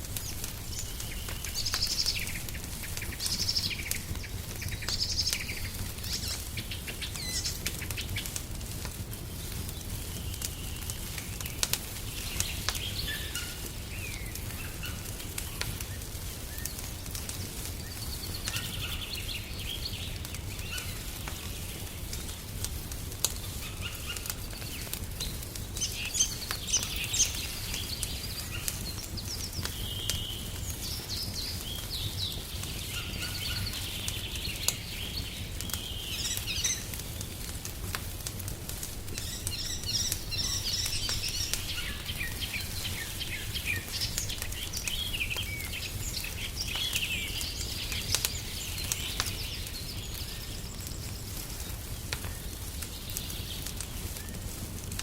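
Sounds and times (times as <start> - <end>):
wood fire crackling: 0.0 - 55.0
songbirds chirping and singing: 0.2 - 8.4, 9.1 - 22.5, 23.2 - 37.5, 39.0 - 54.4.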